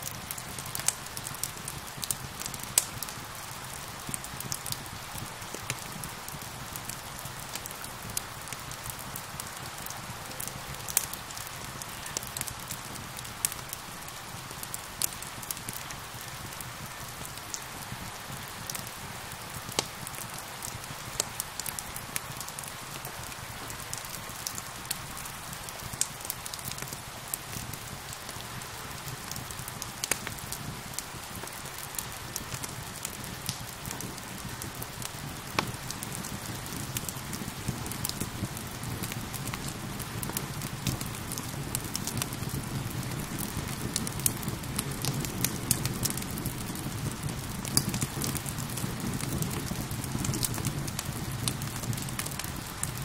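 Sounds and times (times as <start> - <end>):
steady rain hiss: 0.0 - 53.0
wood fire crackling: 0.0 - 53.0.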